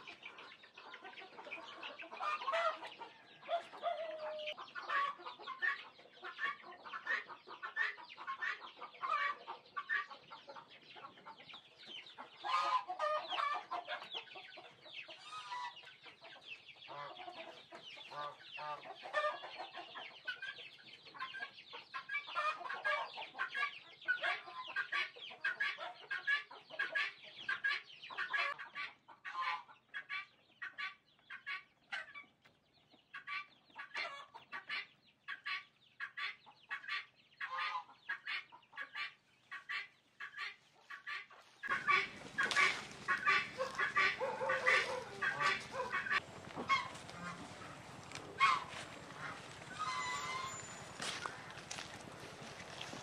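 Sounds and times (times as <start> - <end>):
poultry clucking: 0.0 - 53.0.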